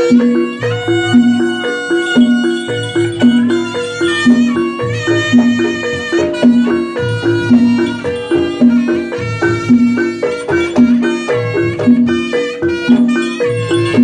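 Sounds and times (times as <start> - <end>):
melodic pitched notes: 0.0 - 12.0.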